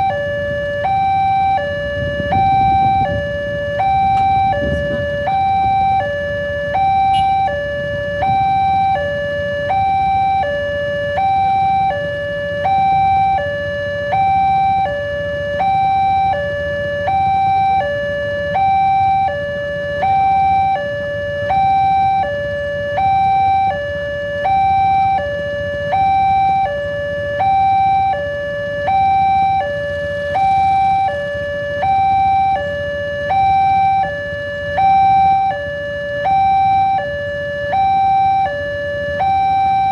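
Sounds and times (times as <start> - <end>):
level crossing alarm high-low tone: 0.0 - 39.9.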